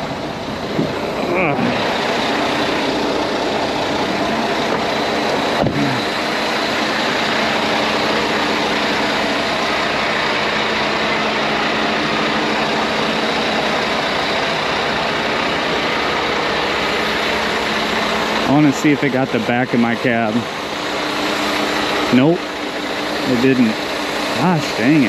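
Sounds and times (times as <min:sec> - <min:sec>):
air dryers blowing: 0:00.0 - 0:25.0
diesel engine idling: 0:00.0 - 0:25.0.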